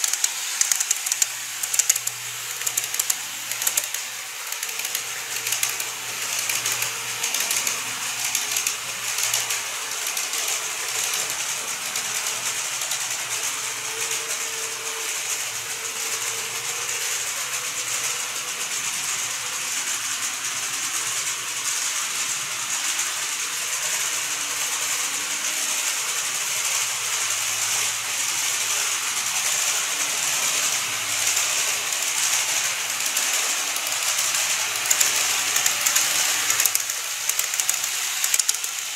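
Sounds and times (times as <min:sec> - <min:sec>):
faint motor whine: 0:00.0 - 0:38.9
model train wheels clattering: 0:00.0 - 0:38.9.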